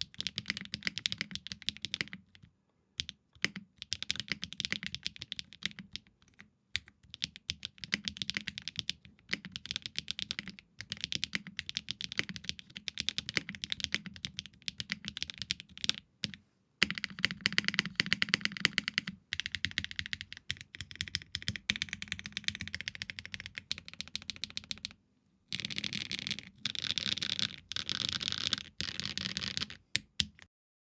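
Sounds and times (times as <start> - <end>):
mechanical keyboard typing: 0.0 - 2.4, 3.0 - 30.5.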